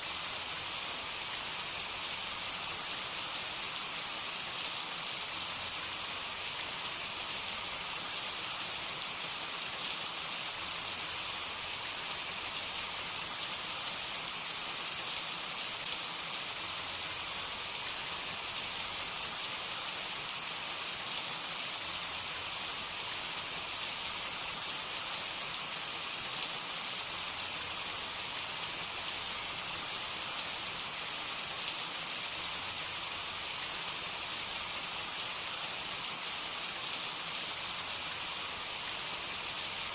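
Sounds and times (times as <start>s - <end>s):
hot oil sizzling: 0.0s - 39.9s
small crackles of frying: 0.0s - 39.9s.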